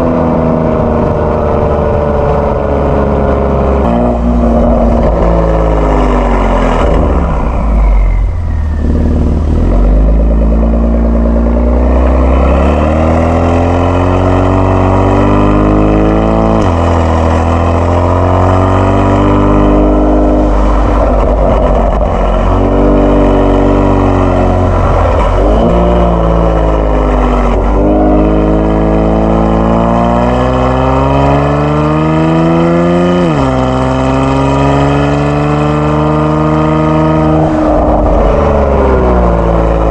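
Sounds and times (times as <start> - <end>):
car exhaust accelerating hard: 0.0 - 39.9.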